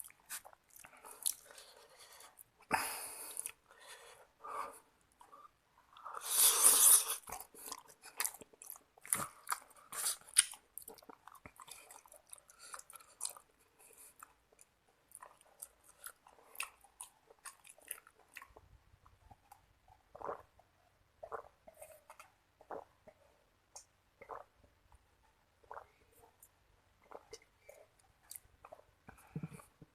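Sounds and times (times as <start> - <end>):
person chewing wetly: 0.0 - 2.5, 3.2 - 3.6, 5.2 - 20.5, 21.2 - 23.2, 23.8 - 24.5, 25.6 - 29.7.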